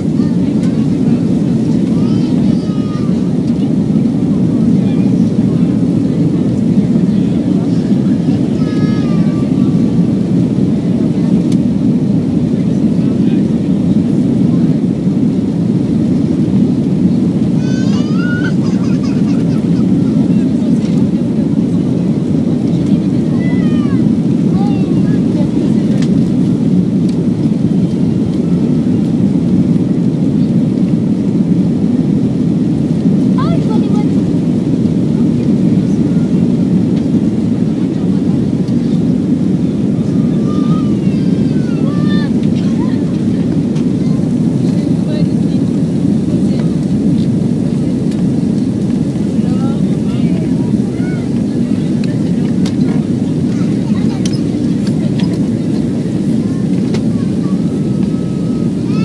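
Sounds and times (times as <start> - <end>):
airflow: 0.0 - 59.0
airliner cabin engine roar: 0.0 - 59.0.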